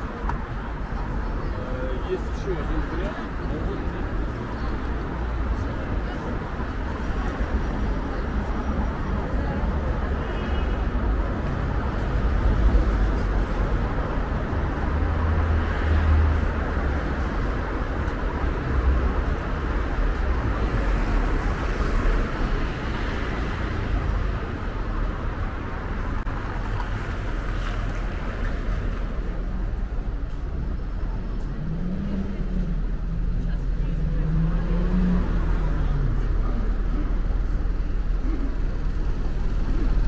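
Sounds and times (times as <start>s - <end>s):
road traffic: 0.0s - 40.0s.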